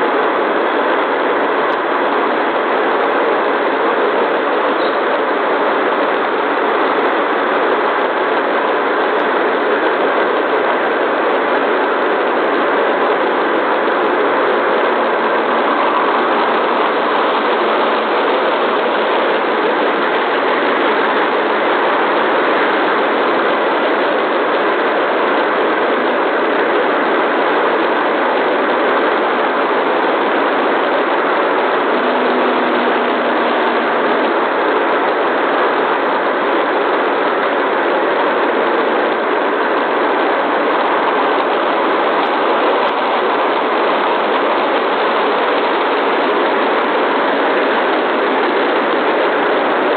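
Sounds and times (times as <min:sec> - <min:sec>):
steady even noise: 0:00.0 - 0:49.9.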